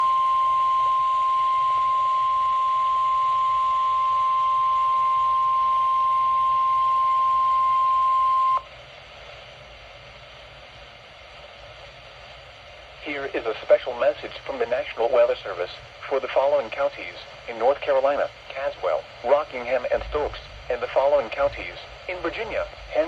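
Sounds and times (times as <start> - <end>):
faint radio hiss: 0.0 - 23.0.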